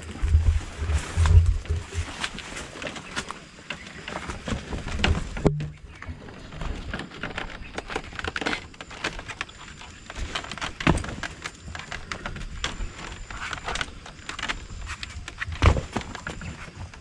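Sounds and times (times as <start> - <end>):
footsteps on wooden ladder: 0.0 - 17.0.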